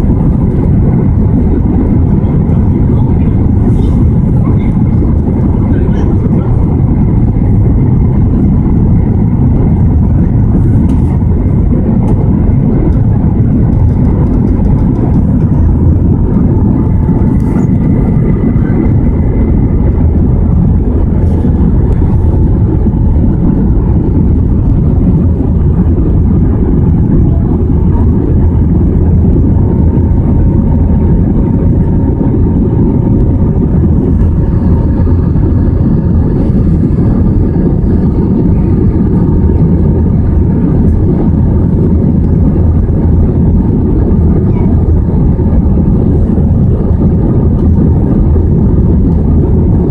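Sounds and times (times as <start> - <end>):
airliner cabin engine rush: 0.0 - 49.9.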